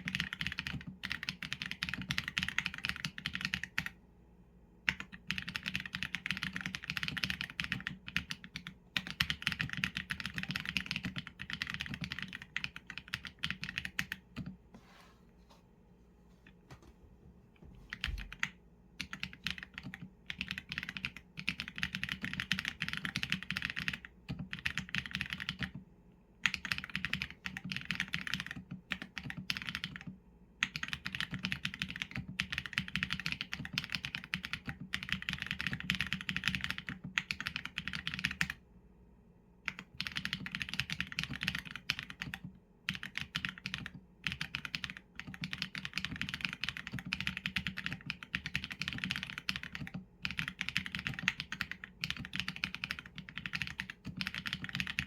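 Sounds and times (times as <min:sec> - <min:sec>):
mechanical keyboard typing: 0:00.0 - 0:04.0, 0:04.9 - 0:14.6, 0:17.9 - 0:25.8, 0:26.4 - 0:38.6, 0:39.7 - 0:55.0.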